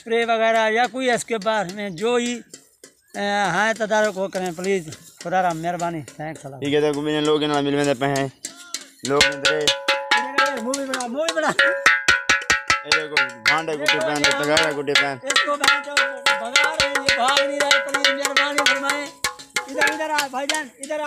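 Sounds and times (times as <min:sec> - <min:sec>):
metal pot beaten with stick: 0:00.0 - 0:21.0.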